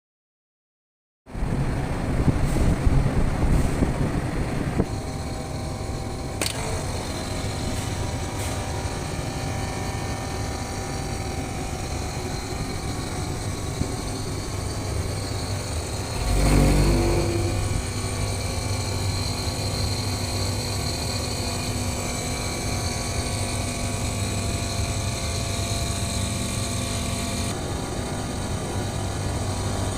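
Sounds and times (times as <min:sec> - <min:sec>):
air-conditioning unit humming: 0:01.5 - 0:29.9.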